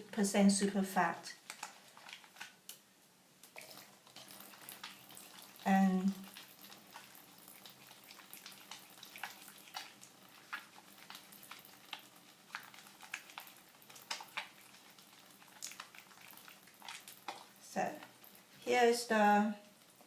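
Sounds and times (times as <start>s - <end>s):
wet hands lathering soap: 1.4s - 2.7s, 3.5s - 18.4s.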